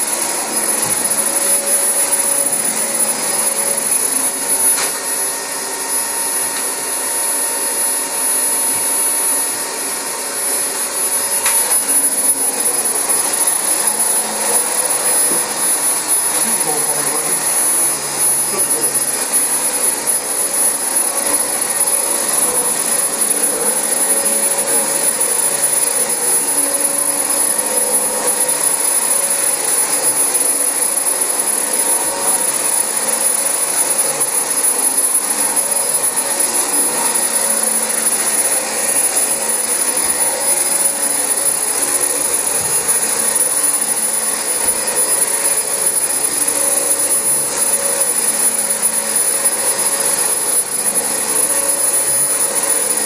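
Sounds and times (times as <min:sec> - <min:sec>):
vacuum cleaner running over carpet: 0:00.0 - 0:53.0.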